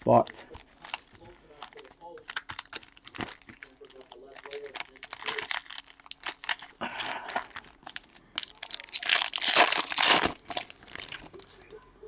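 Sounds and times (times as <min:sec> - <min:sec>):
wrapper crinkling and tearing: 0:00.0 - 0:11.7.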